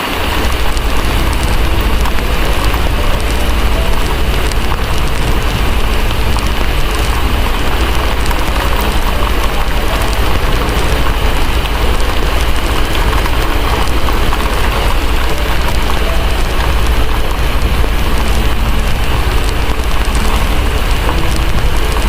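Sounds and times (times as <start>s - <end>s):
heavy rain: 0.0s - 22.0s
wood fire crackling: 0.0s - 22.0s
deep low rumble: 0.1s - 22.0s.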